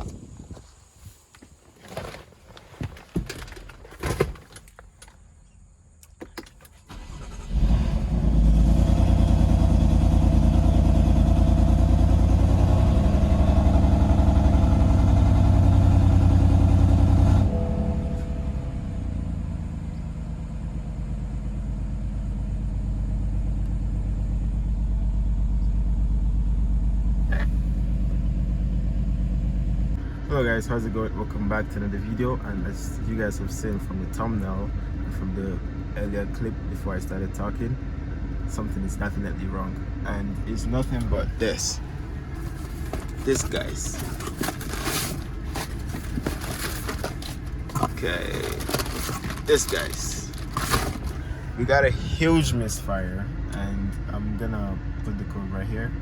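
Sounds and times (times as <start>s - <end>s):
car engine misfiring: 6.0s - 56.0s.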